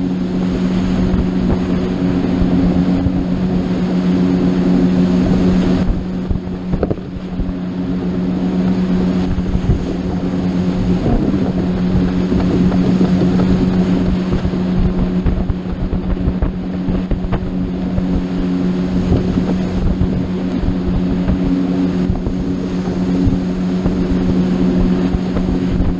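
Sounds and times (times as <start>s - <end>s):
motorboat engine droning: 0.0s - 25.9s
water rushing past hull: 0.0s - 25.9s
wind buffeting microphone: 0.0s - 25.9s.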